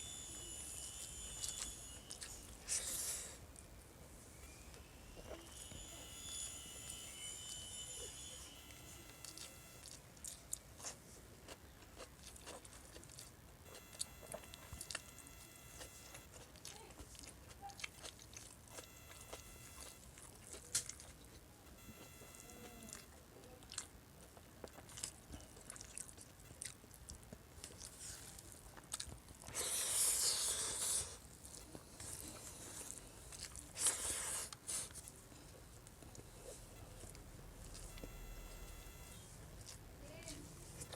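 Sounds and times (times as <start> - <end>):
person chewing food: 0.9 - 3.8, 4.4 - 40.9.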